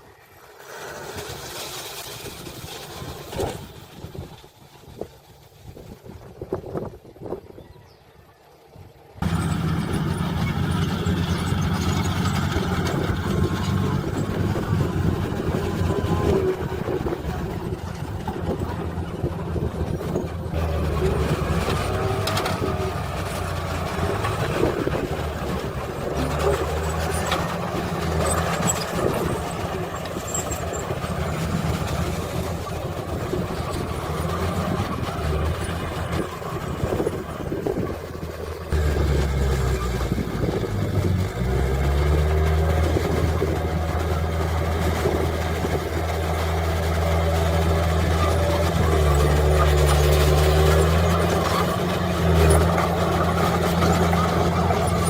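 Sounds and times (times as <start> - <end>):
heavy diesel engines revving: 9.2 - 55.0.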